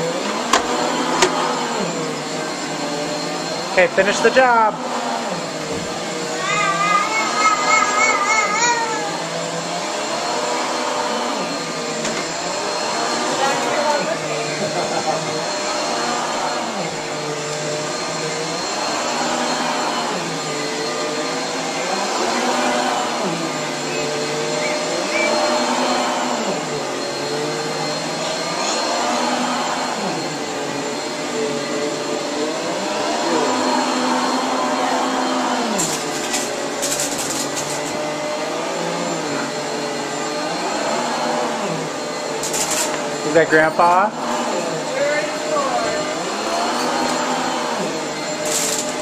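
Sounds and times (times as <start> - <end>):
vacuum cleaner running: 0.0 - 49.0.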